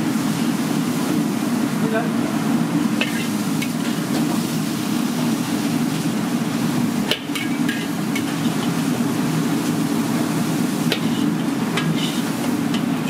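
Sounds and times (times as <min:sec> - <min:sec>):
wok burner rushing: 0:00.0 - 0:13.0.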